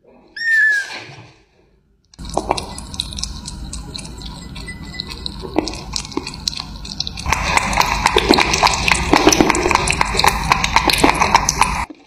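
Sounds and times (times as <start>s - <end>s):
kittens lapping milk: 2.2s - 12.0s.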